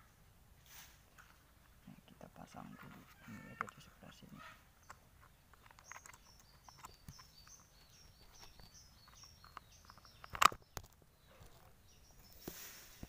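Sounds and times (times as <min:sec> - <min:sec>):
small bird chirping: 0:01.1 - 0:13.0.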